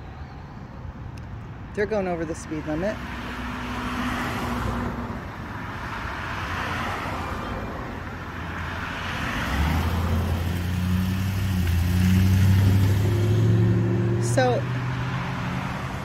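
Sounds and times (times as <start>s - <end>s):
cars passing: 0.0s - 16.0s
vehicle engine hum close by: 0.0s - 16.0s.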